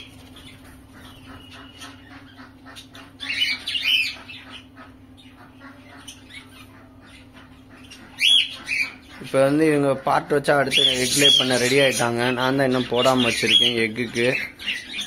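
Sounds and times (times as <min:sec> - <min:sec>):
birds chirping and squawking: 0:00.0 - 0:15.0
steady low hum: 0:00.0 - 0:15.0.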